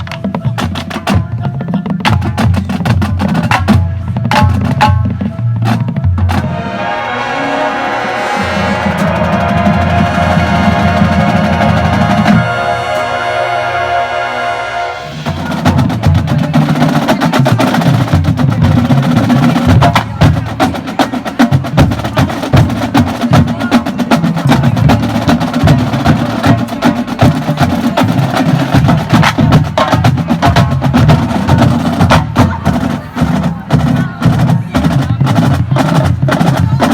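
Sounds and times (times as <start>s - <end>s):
fast drum passage: 0.0s - 6.9s, 8.1s - 13.3s, 15.0s - 36.9s
marching band holding a chord: 2.3s - 36.9s.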